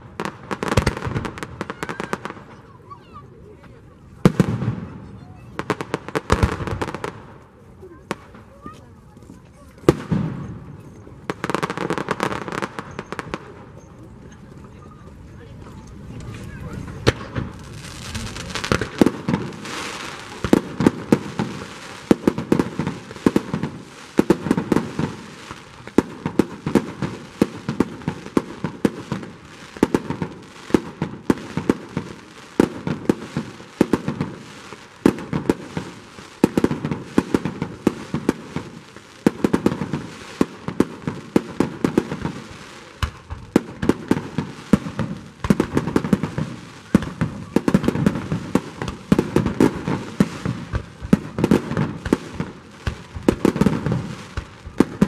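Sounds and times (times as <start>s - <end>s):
fireworks bursting with bangs: 0.0s - 55.0s
fireworks crackling: 0.0s - 55.0s.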